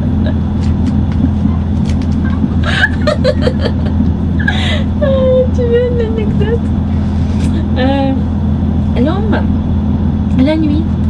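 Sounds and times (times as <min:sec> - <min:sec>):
train rumbling from inside: 0:00.0 - 0:11.0.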